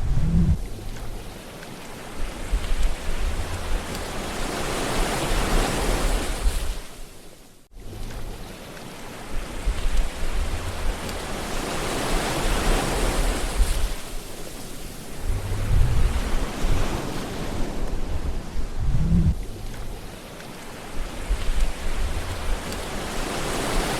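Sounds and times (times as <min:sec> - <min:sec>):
ocean waves washing on shore: 0:00.0 - 0:23.9.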